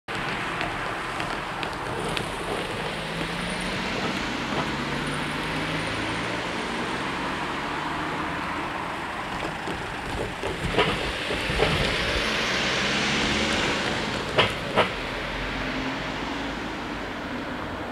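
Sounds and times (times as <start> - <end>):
cars and van driving by: 0.1 - 17.9.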